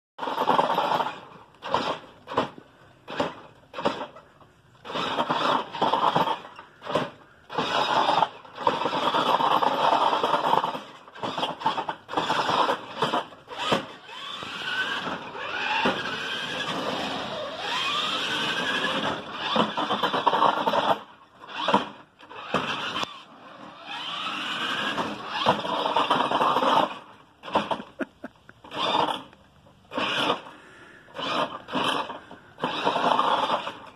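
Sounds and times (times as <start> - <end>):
toy truck motors whining: 0.2 - 33.9.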